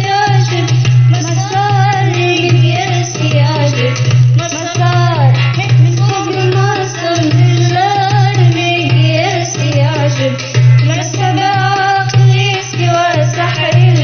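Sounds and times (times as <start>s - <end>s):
drums: 0.0s - 14.0s
person singing: 0.0s - 14.0s
pulsing bass: 0.0s - 14.0s.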